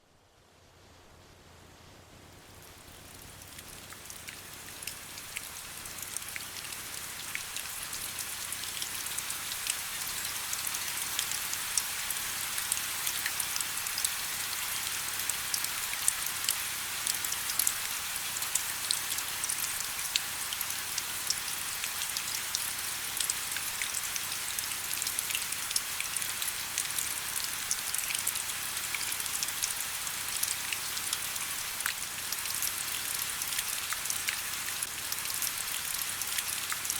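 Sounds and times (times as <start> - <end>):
steady rain with drop ticks: 1.3 - 36.9.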